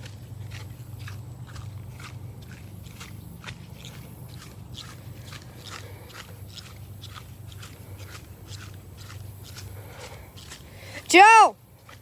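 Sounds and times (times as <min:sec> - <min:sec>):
footsteps crunching on dry ground: 0:00.0 - 0:12.0.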